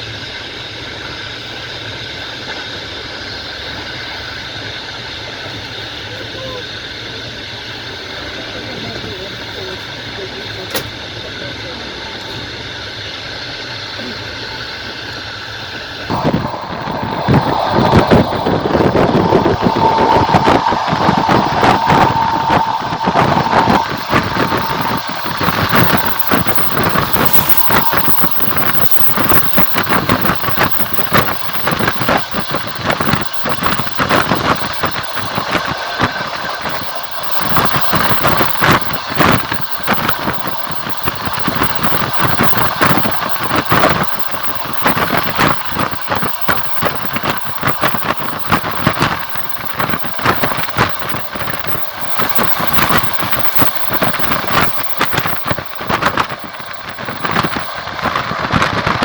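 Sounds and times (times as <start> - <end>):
train wheels clattering on rails: 6.8 - 15.9, 16.8 - 59.0.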